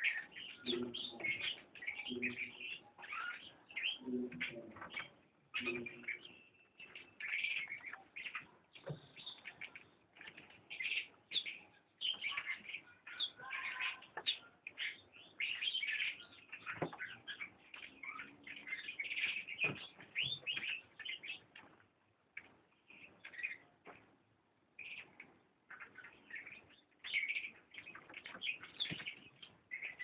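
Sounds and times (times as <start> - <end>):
chicks chirping: 0.0 - 24.1, 24.7 - 30.0.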